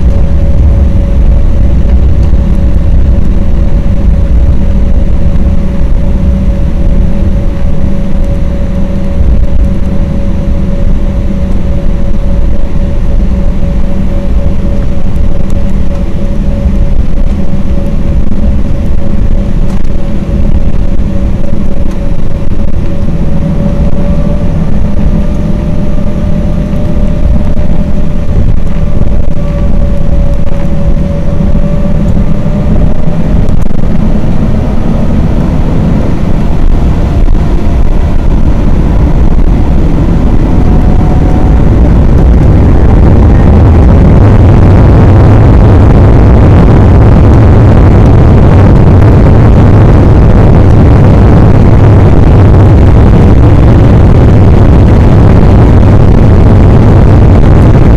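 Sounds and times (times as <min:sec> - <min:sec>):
jet engines rumbling and whining: 0:00.0 - 0:57.9.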